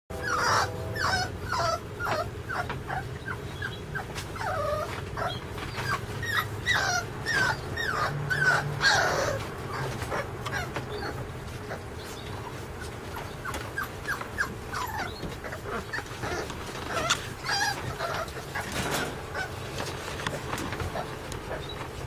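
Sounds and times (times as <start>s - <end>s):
puppy whimpering and whining: 0.2s - 22.0s.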